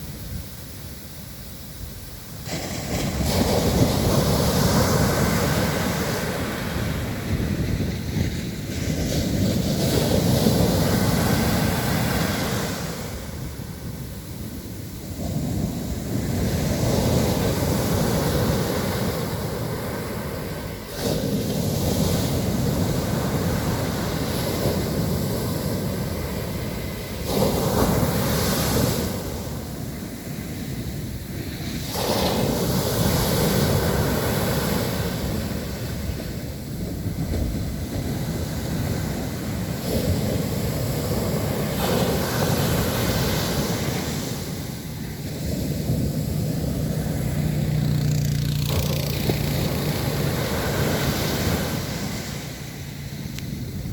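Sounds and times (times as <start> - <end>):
ocean surf breaking on beach: 0.0 - 53.9.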